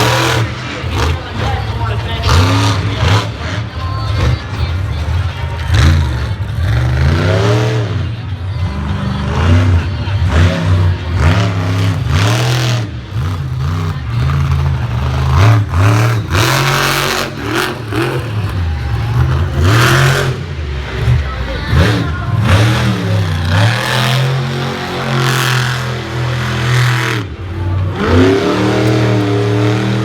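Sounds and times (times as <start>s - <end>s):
monster truck engine revving: 0.0s - 30.0s.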